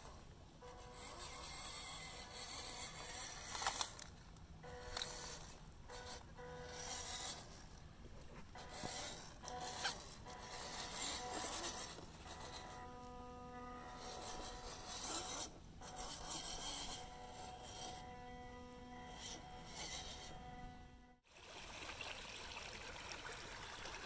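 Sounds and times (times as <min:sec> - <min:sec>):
toy car electric motor whirring: 0:00.0 - 0:07.8, 0:08.5 - 0:21.0.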